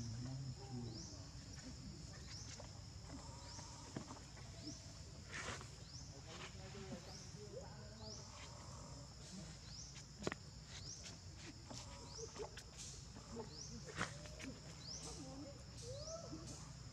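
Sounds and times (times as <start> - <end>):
high insect drone: 0.0 - 16.9.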